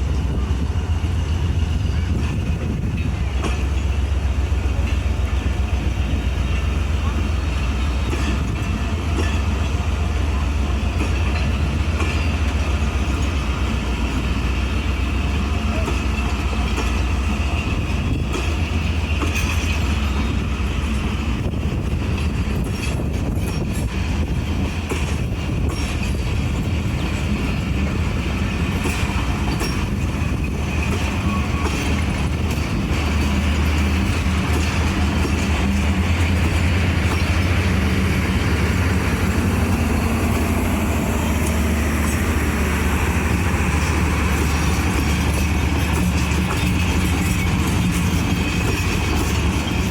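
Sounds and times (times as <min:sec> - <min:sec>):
diesel locomotive engine rumble: 0:00.0 - 0:49.9
wheels on rails: 0:00.0 - 0:49.9.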